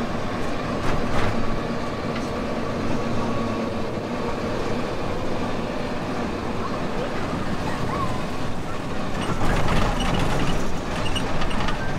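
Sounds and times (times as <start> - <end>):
small train rumbling on track: 0.0 - 11.9.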